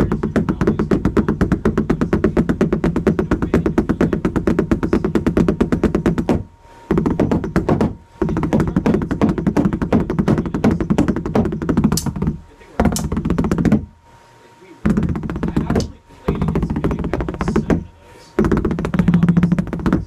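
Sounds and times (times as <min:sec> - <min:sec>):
drums struck in fast runs: 0:00.0 - 0:13.9, 0:14.9 - 0:20.0.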